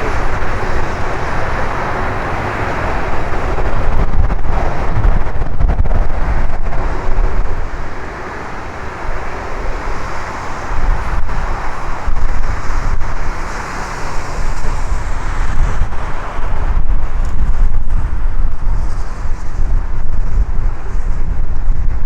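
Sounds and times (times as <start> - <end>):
gusting wind buffeting microphone: 0.0 - 22.0.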